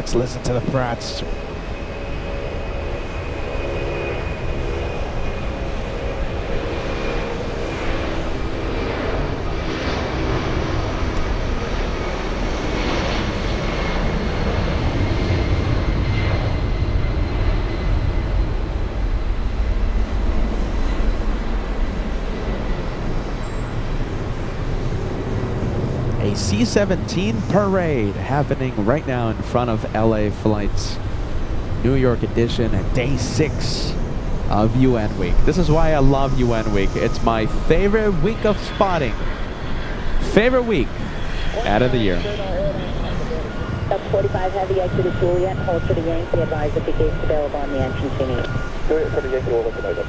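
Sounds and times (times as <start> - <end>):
jet engines rumbling: 0.0 - 50.0.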